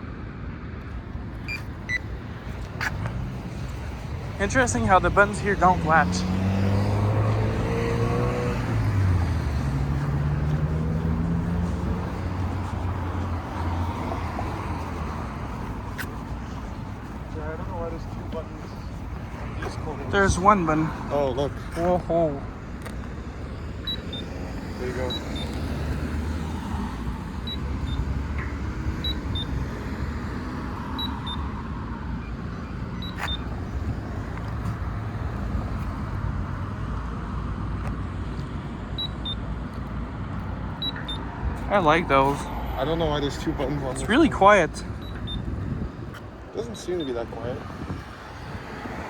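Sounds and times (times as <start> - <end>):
traffic noise: 0.0 - 49.0
vehicle engines running: 0.8 - 49.0.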